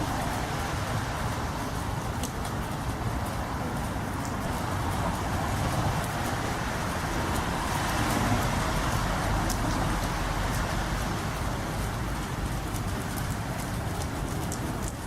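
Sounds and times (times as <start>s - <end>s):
distant highway traffic hum: 0.0s - 15.0s
rain drips ticking: 0.0s - 15.0s.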